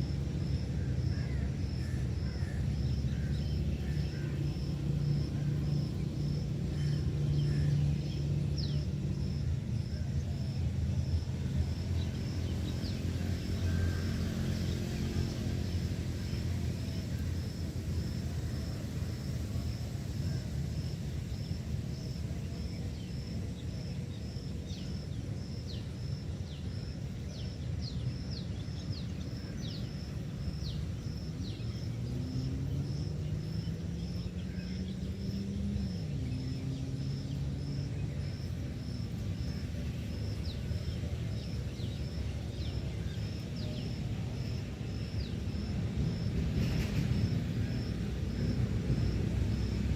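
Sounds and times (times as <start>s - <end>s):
low rising engine drone: 0.0s - 49.9s.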